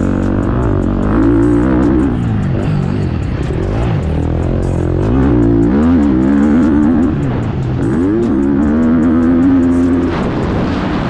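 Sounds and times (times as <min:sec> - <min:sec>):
background music with guitar: 0:00.0 - 0:11.0
motocross bike engine revving: 0:00.0 - 0:11.0.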